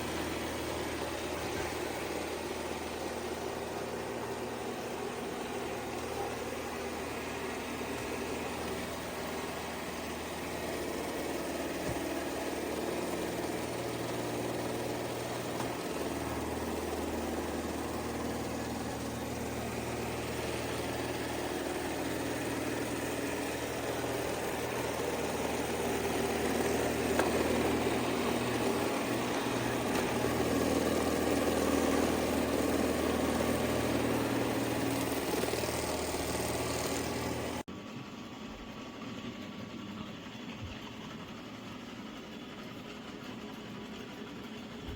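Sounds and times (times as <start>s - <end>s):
robot vacuum suction motor humming: 0.0s - 37.6s.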